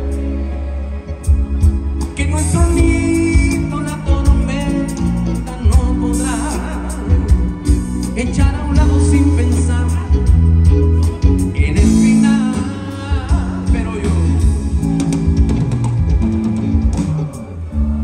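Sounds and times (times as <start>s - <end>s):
person singing: 0.0s - 15.0s
rock band playing: 0.0s - 18.0s.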